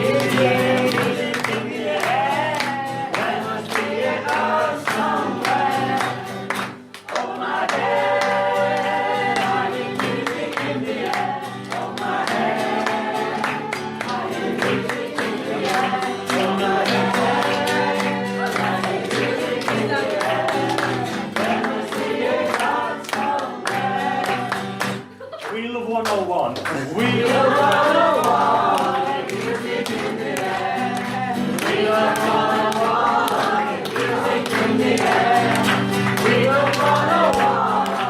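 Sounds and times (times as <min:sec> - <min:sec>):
group of voices singing: 0:00.0 - 0:25.1, 0:26.7 - 0:38.0
musical accompaniment: 0:00.0 - 0:25.2, 0:26.6 - 0:38.0.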